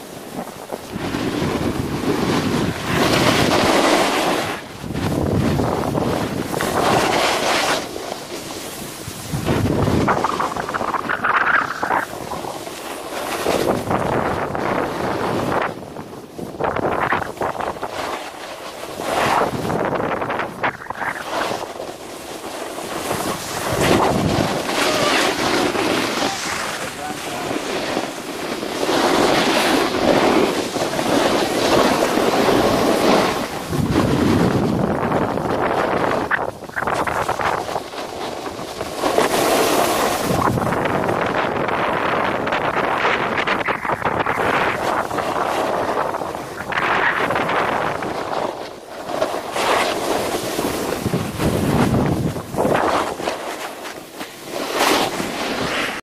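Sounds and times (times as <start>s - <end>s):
snowboard scraping over snow: 0.0s - 56.0s
wind noise on microphone: 0.0s - 56.0s.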